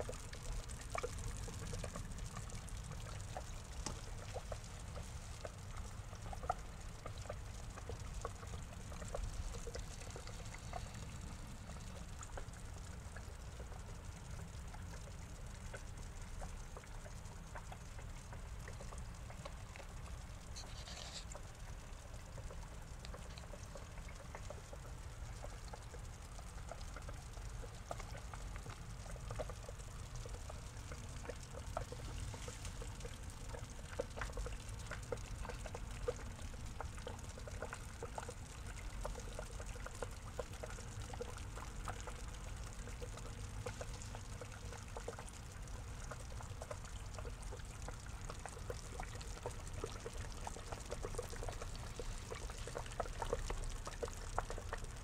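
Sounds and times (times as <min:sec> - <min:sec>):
low steady rumble: 0:00.0 - 0:55.0
water pouring into pond: 0:00.0 - 0:55.0.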